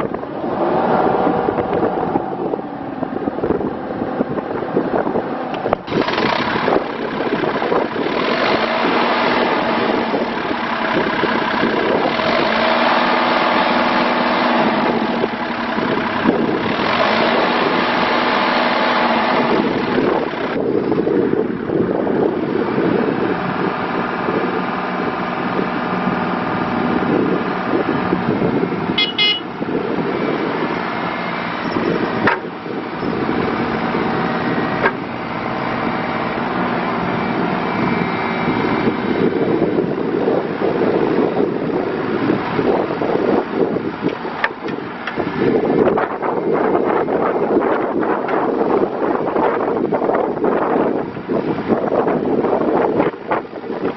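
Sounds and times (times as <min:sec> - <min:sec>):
excavator diesel engine working: 0:00.0 - 0:53.9.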